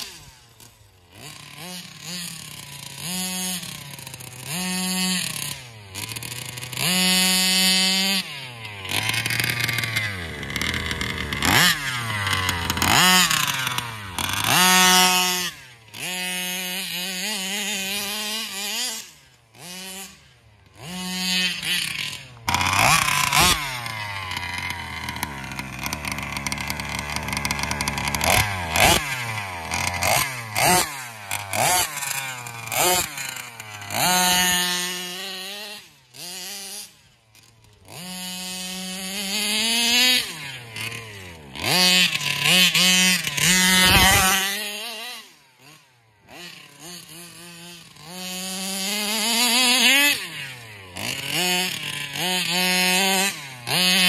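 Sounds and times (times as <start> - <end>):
two-stroke engine revving: 0.0 - 54.0.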